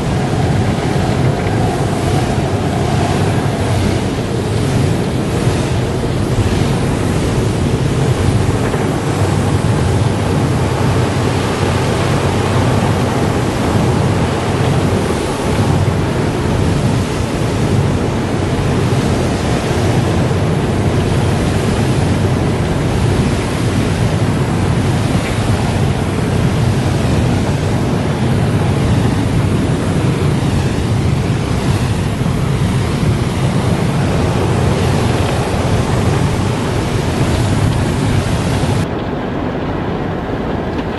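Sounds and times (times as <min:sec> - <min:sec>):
car wash water spray: 0:00.0 - 0:39.5.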